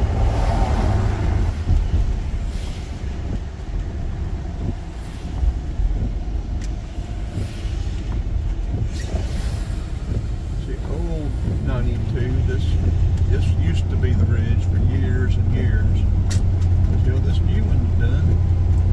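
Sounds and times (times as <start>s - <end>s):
road and engine rumble: 0.0s - 18.9s.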